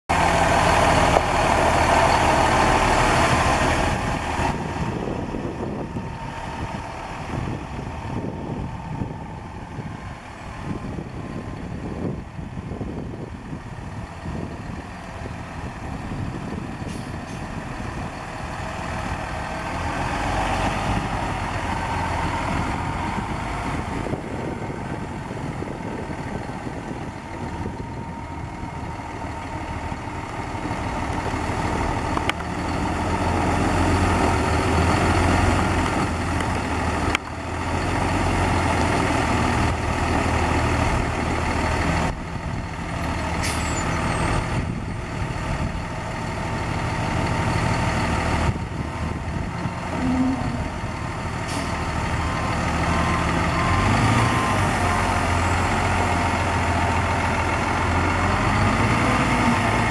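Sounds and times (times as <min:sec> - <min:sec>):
diesel truck engine idling: 0:00.1 - 0:59.9.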